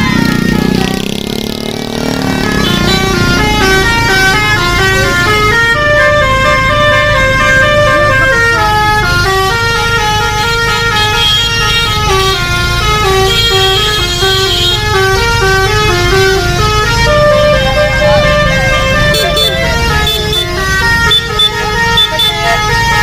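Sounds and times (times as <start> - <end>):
bus horn playing a melody: 0.0 - 23.0.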